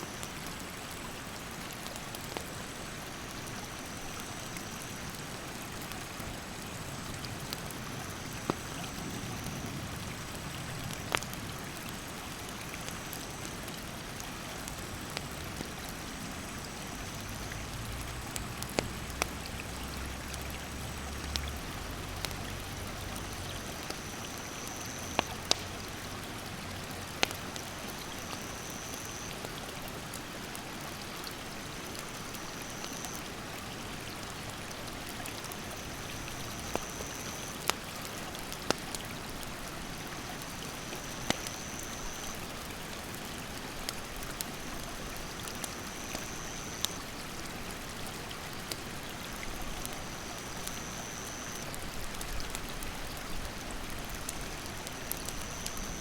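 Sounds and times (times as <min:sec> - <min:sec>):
campfire crackling and popping: 0:00.1 - 0:33.3, 0:34.0 - 0:56.0.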